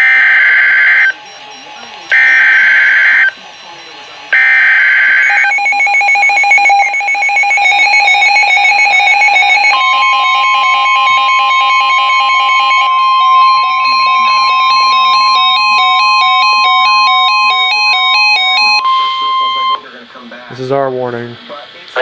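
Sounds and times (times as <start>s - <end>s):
two-tone electronic warble: 0.0s - 19.8s
steady high alarm tone: 0.0s - 19.9s
electronic beeps rising and falling: 0.2s - 19.8s.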